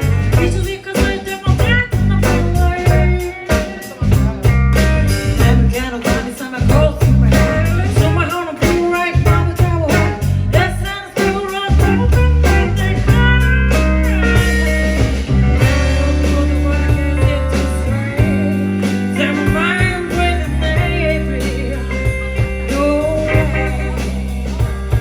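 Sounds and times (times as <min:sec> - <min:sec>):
bass line: 0:00.0 - 0:25.0
guitar: 0:00.0 - 0:25.0.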